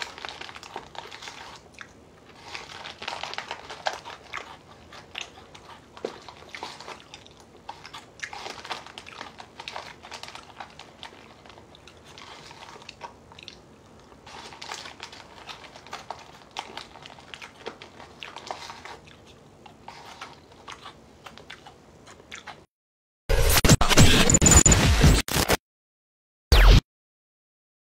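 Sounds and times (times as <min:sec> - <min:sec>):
chewing crunchy cereal: 0:00.0 - 0:22.7.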